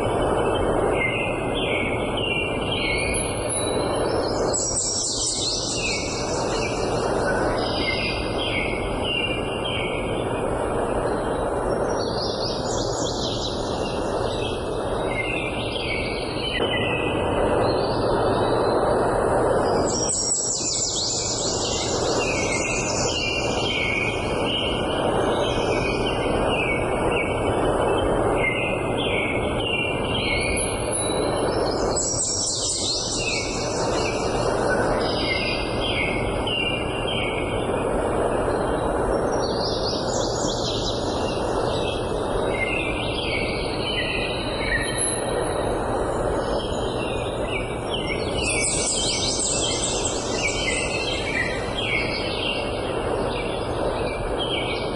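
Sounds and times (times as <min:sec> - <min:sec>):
songbird singing: 0:00.0 - 0:54.9
steady noisy rush: 0:00.0 - 0:54.9.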